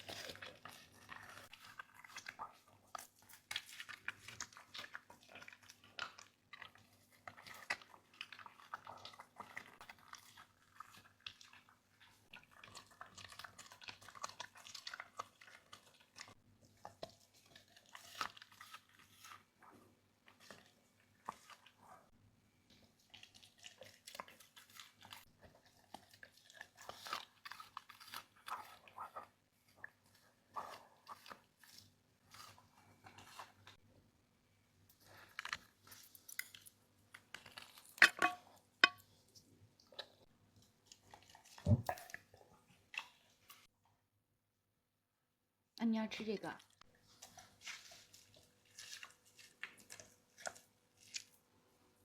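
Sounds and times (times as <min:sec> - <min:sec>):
dog chewing and crunching: 0:00.0 - 0:33.9, 0:34.9 - 0:43.7, 0:46.7 - 0:52.0.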